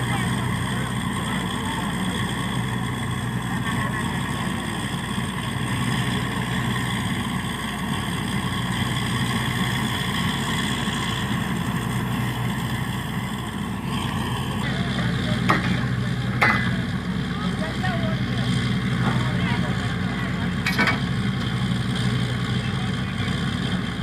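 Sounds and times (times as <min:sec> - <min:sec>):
drilling rig engine droning: 0:00.0 - 0:24.0.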